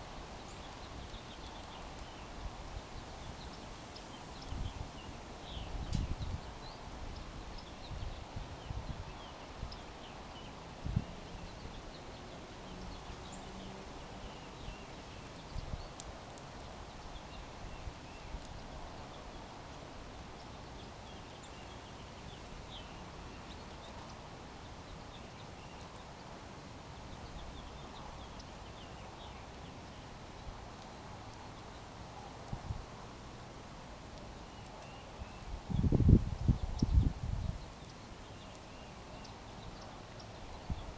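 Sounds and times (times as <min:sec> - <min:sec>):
outdoor background noise: 0:00.0 - 0:40.9
small birds chirping: 0:00.0 - 0:40.9.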